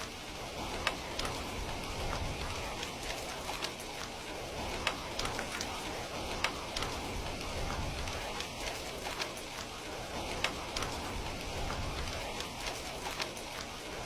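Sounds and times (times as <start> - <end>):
rain hiss: 0.0 - 14.0
wood fire crackling: 0.0 - 14.0.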